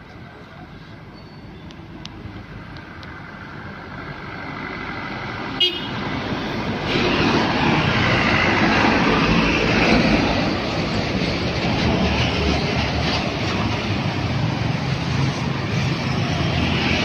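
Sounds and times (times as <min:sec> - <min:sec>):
heavy trucks passing: 0:00.8 - 0:17.0.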